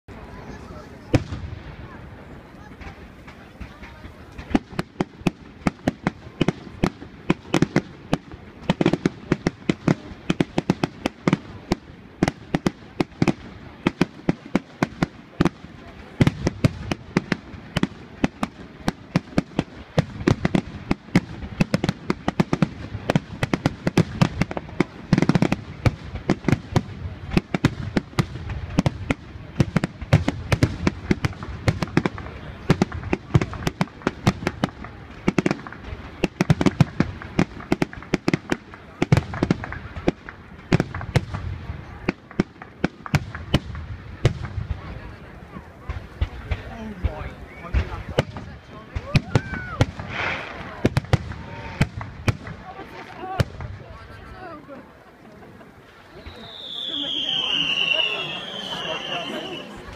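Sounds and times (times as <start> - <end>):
fireworks bangs and crackles: 0.1 - 59.9.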